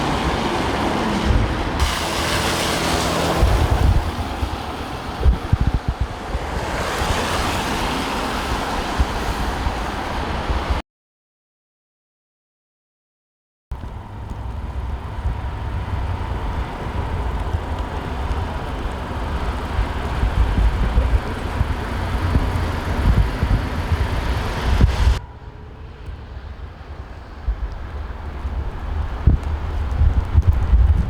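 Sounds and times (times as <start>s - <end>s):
city street rumble: 0.0s - 10.8s, 13.7s - 31.0s
wind buffeting microphone: 0.0s - 10.8s, 13.7s - 31.0s.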